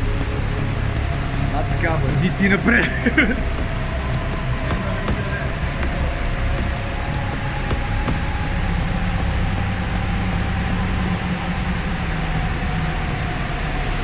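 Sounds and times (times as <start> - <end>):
rumble and hiss in tunnel: 0.0 - 14.0.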